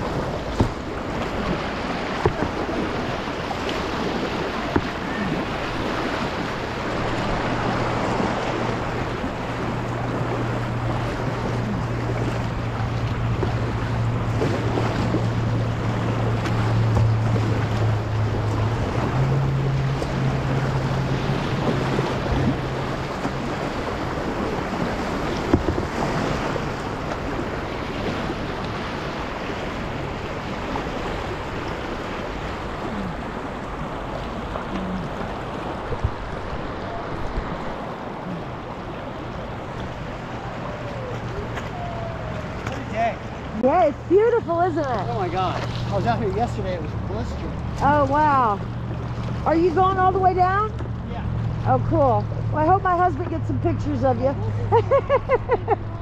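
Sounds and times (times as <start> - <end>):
low steady hum: 6.4 - 56.0.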